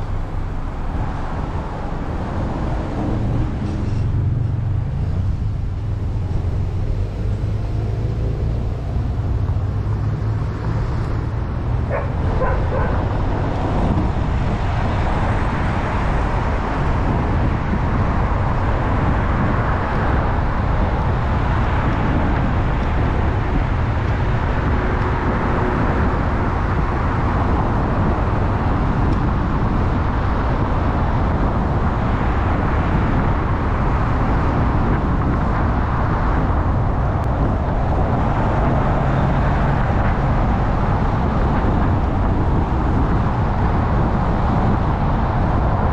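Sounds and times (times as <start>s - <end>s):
car road and engine noise: 0.0s - 45.9s.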